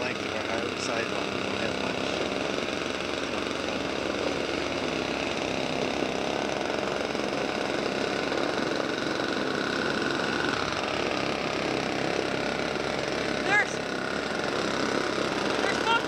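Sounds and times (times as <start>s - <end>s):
snowblower engine running: 0.0s - 16.0s.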